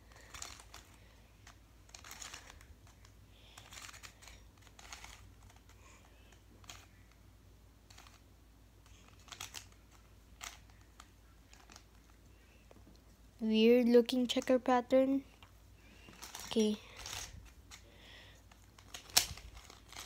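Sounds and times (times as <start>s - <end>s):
plastic puzzle clicks and scrapes: 0.0s - 12.7s, 15.4s - 20.0s.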